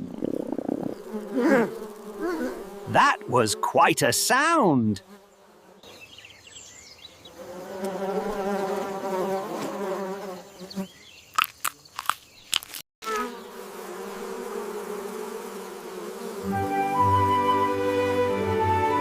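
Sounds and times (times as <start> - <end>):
insect-like buzzing: 0.0 - 3.7, 5.0 - 18.2.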